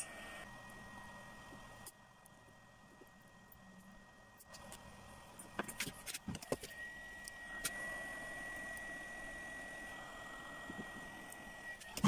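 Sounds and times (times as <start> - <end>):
hot-air gun fan blowing: 0.0 - 12.0.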